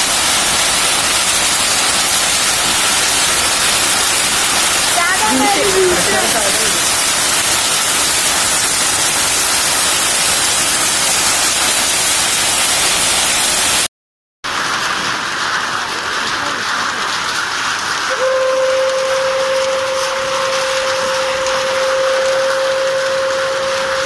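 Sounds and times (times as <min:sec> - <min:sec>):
rain and hail on a tin roof: 0:00.0 - 0:24.0.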